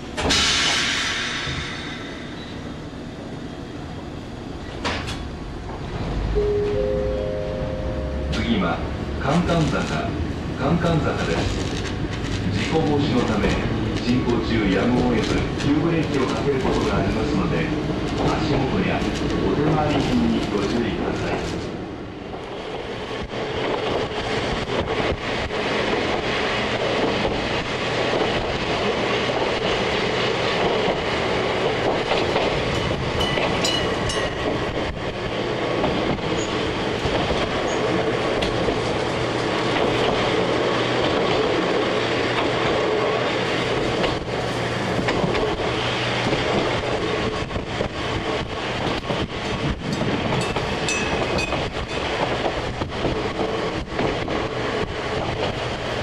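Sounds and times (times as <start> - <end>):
railcar running hum: 0.0 - 56.0.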